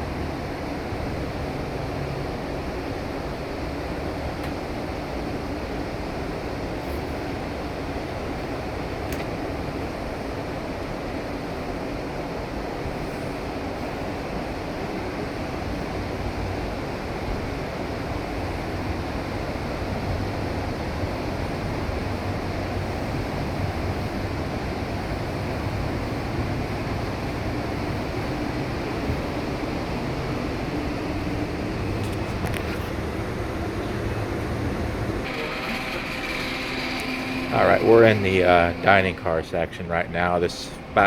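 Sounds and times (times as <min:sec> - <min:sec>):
train interior rumble: 0:00.0 - 0:41.0.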